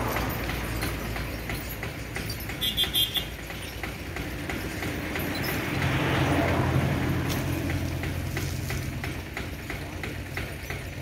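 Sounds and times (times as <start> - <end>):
vehicle engine hum and road noise: 0.0 - 11.0.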